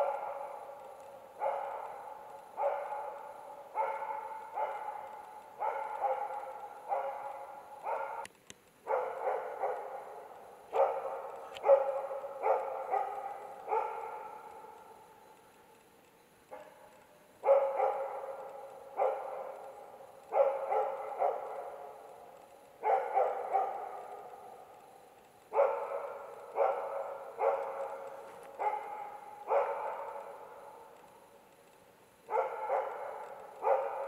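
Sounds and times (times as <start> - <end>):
dog barking with echo: 0.0 - 8.3, 8.9 - 15.2, 16.5 - 31.3, 32.2 - 34.0.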